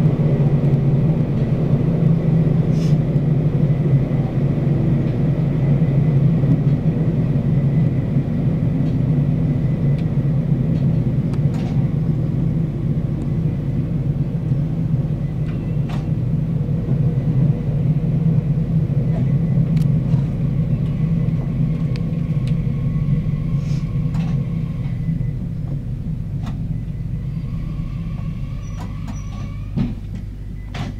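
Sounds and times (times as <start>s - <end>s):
train running rumble: 0.0s - 30.9s.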